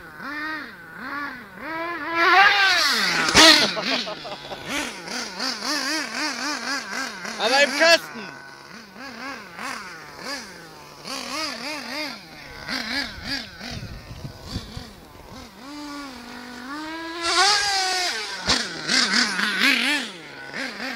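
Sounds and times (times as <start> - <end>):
toy truck motor revving: 0.0 - 20.9.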